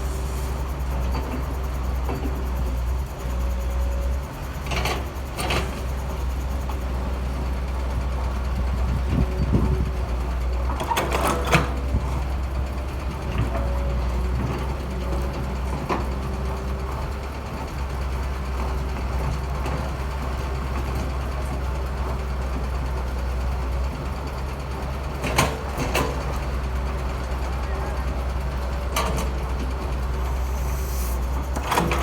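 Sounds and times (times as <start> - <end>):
construction machinery engines rumbling: 0.0 - 32.0.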